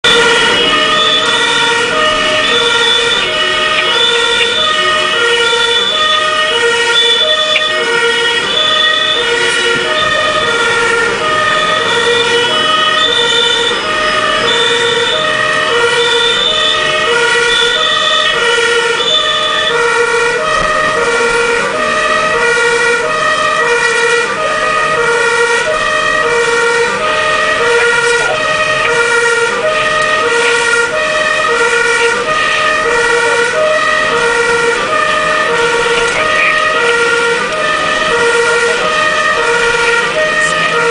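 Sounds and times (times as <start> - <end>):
truck engine running: 0.0 - 40.9
two-tone fire engine siren: 0.0 - 40.9.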